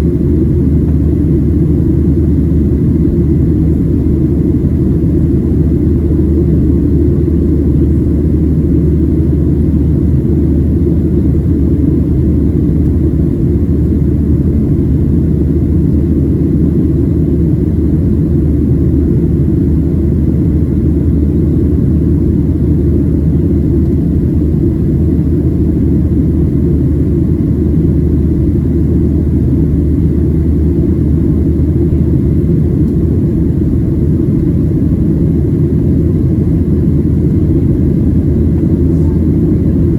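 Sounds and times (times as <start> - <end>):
airplane cabin engine rumble: 0.0 - 39.9
low hum: 0.0 - 39.9.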